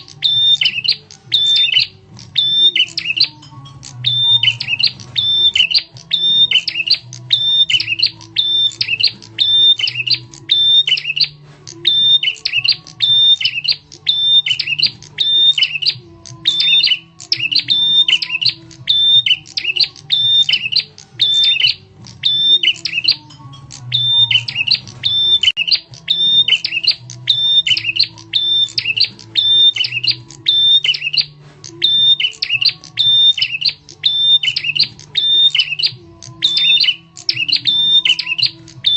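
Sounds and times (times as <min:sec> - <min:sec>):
songbird chattering call: 0:00.0 - 0:38.9.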